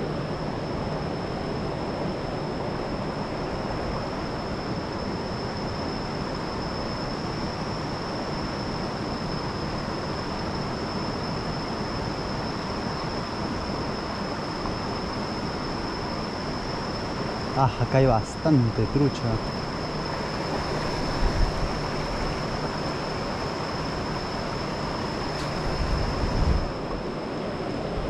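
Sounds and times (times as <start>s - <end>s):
high-pitched whine: 0.0s - 28.0s.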